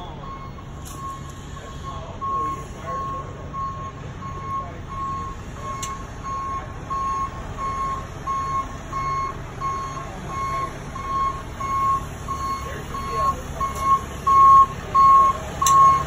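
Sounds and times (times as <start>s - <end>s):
reversing alarm beeping: 0.0s - 16.0s
truck engine running: 0.0s - 16.0s.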